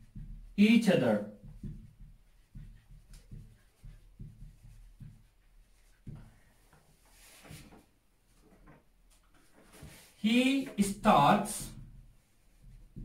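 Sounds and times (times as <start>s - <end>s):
marker writing on whiteboard: 0.0s - 7.9s, 9.6s - 13.0s.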